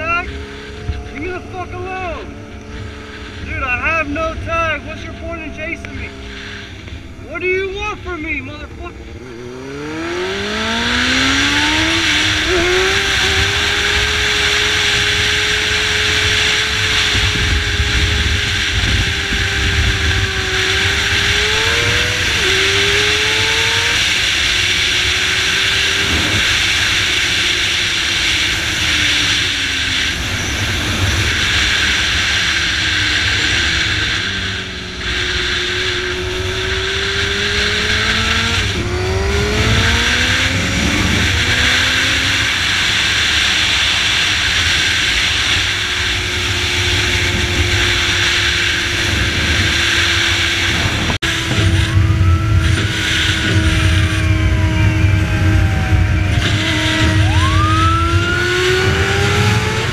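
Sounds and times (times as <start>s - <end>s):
motorcycle engine revving: 0.0s - 59.9s
wind rushing on microphone: 0.0s - 59.9s.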